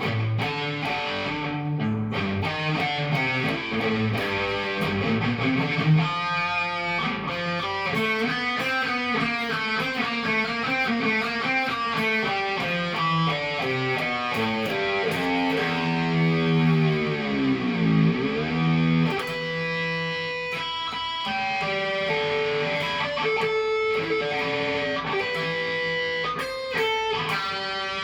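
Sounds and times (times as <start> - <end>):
guitar playing fast melody: 0.0 - 28.0.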